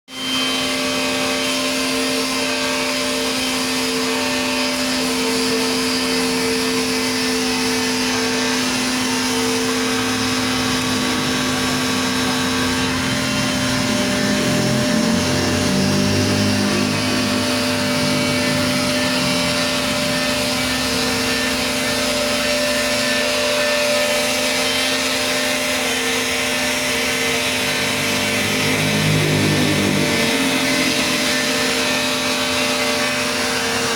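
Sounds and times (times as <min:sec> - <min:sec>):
power sander running: 0:00.1 - 0:33.9.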